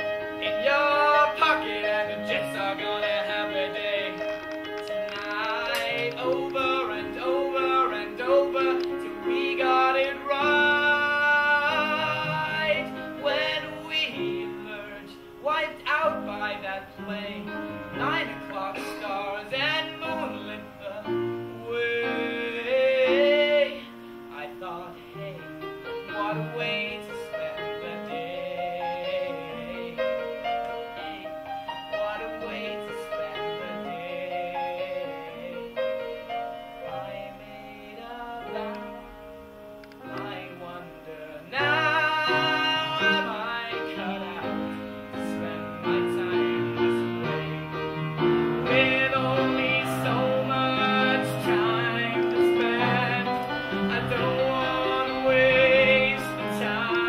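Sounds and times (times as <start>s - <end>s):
man singing a ballad: 0.0s - 47.5s, 48.6s - 57.0s
piano accompaniment: 0.0s - 57.0s.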